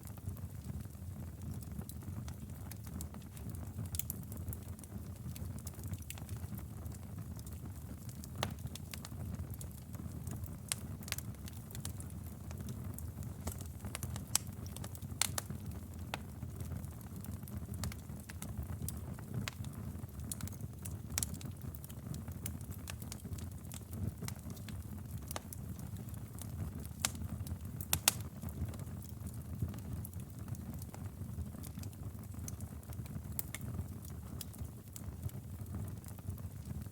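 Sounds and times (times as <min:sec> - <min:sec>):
fire crackling and popping: 0:00.0 - 0:36.9
fireplace fire rumbling: 0:00.0 - 0:36.9.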